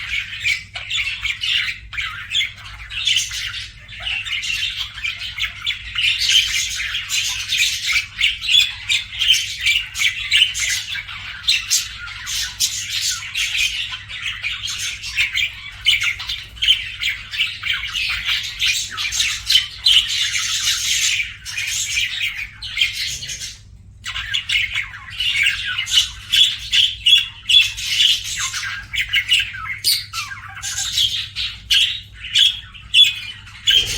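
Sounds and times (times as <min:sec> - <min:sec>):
bird chirping and chattering: 0:00.0 - 0:33.9.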